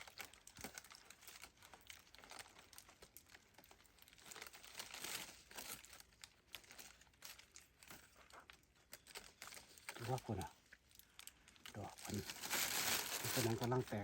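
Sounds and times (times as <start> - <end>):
dry leaves and twigs crackling: 0.0 - 14.0.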